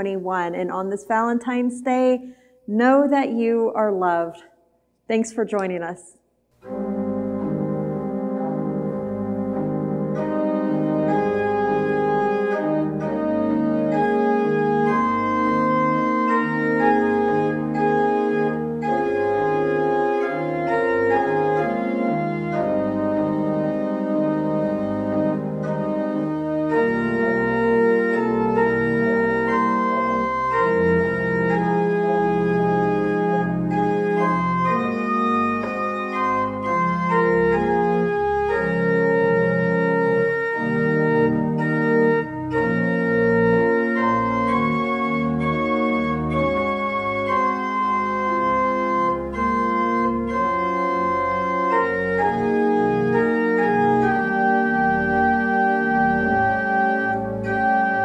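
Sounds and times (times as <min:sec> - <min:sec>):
pipe organ slow chords: 0:06.5 - 0:58.0.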